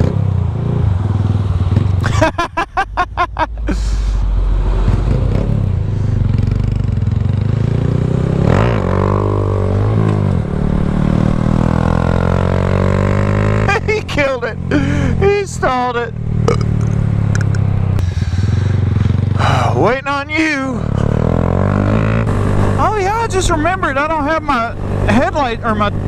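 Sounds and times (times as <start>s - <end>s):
motorcycle engine revving: 0.0s - 2.1s, 3.7s - 26.0s.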